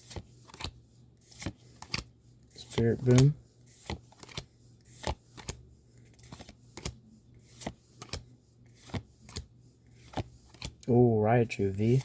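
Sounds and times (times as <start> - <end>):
trading cards sliding and swishing: 0.0 - 10.8, 11.7 - 12.0.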